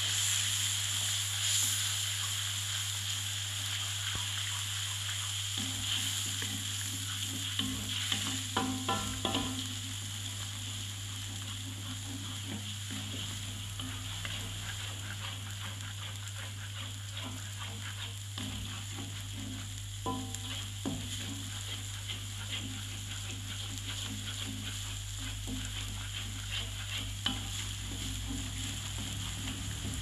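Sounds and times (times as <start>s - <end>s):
food sizzling in wok: 0.0s - 30.0s
spatula scraping pan: 3.6s - 30.0s.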